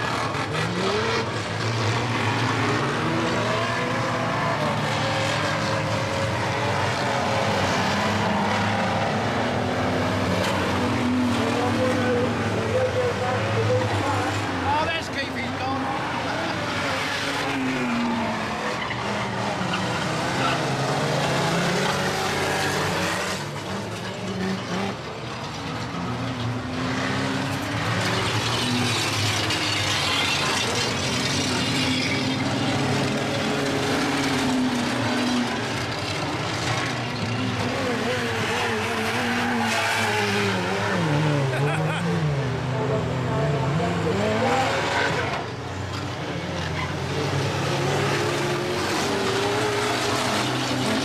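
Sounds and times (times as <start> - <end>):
engine and tyre noise: 0.0 - 51.0
racing van engines revving: 0.0 - 51.0.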